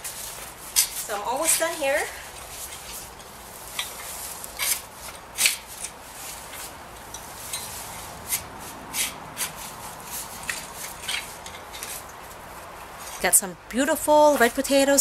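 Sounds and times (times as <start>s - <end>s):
garden fork scraping into soil: 0.0s - 13.4s.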